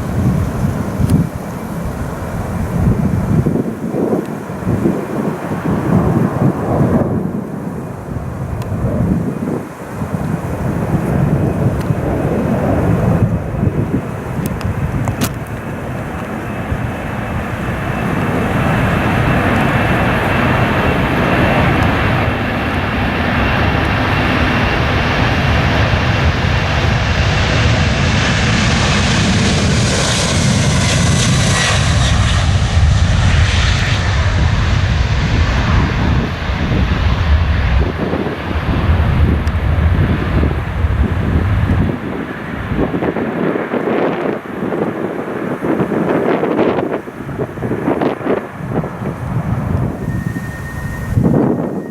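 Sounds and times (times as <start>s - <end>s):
high jet engine whine: 0.0s - 51.9s
jet engine rumble: 0.0s - 51.9s.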